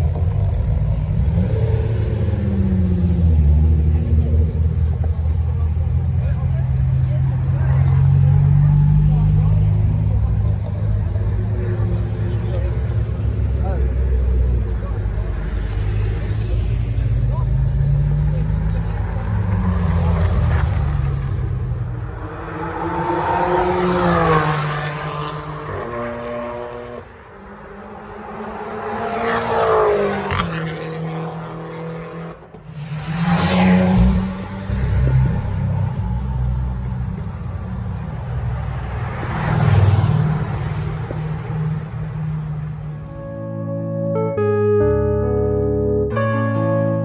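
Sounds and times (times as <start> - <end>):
race car engines revving: 0.0 - 44.3.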